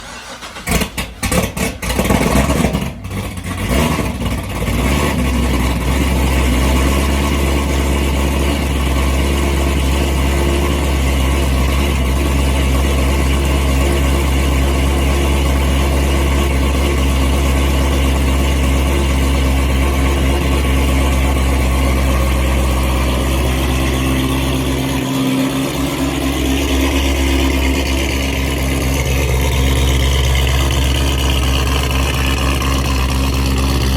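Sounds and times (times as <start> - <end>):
car engine cold starting: 0.0 - 33.9
car engine idling loudly: 0.0 - 33.9.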